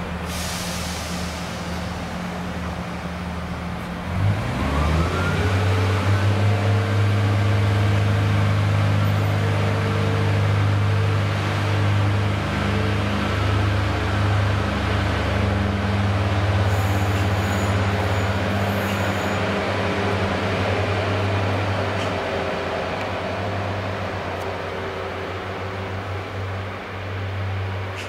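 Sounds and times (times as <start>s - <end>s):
diesel train engines droning: 0.0s - 28.0s.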